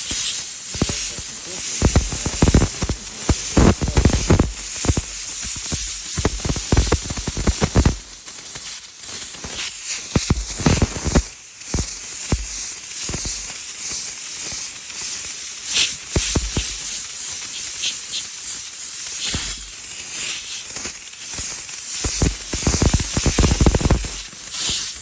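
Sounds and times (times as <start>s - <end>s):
air blow gun hissing: 0.0s - 14.6s, 15.6s - 25.0s.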